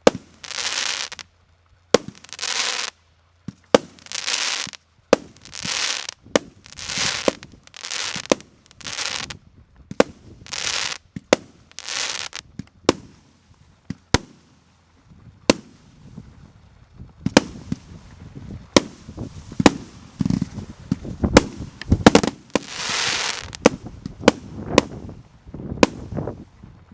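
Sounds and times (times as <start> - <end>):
crackling hiss: 0.0 - 26.9.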